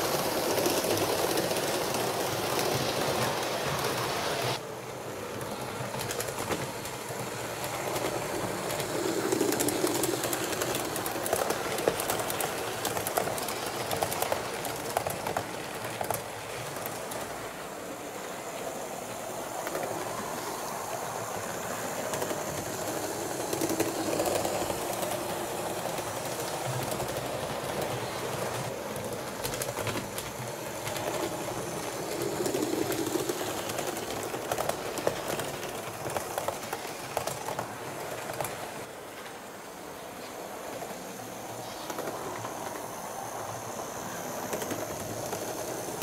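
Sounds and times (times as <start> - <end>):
model trains running on track: 0.0 - 46.0.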